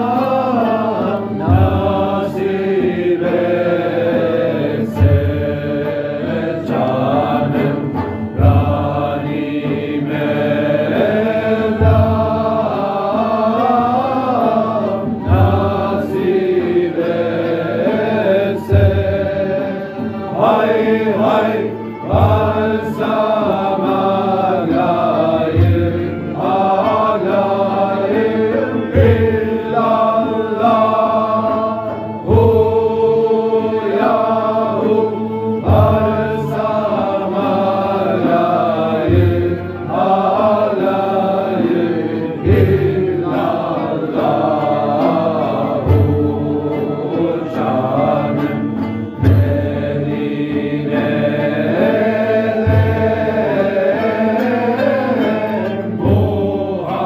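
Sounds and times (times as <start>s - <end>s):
men chanting together: 0.0s - 48.6s, 49.2s - 57.0s
sung melody: 0.0s - 57.0s.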